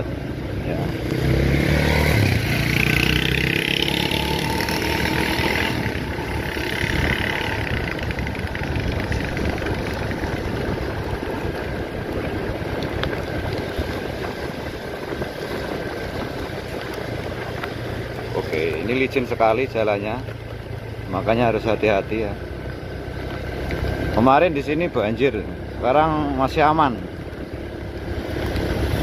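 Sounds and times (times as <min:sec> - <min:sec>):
road and wind noise: 0:00.0 - 0:29.0
vehicle engine running: 0:00.0 - 0:29.0.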